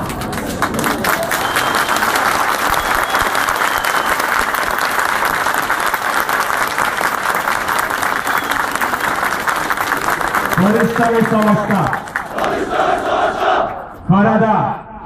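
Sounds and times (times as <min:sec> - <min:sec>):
crowd applauding: 0:00.0 - 0:13.1.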